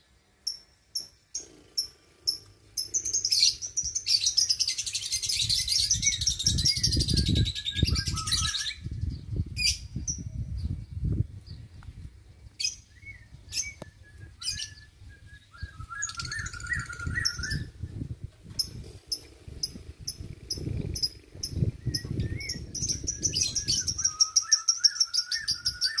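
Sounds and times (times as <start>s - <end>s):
lovebird chirping: 0.1s - 11.7s, 12.6s - 18.0s, 18.6s - 26.0s.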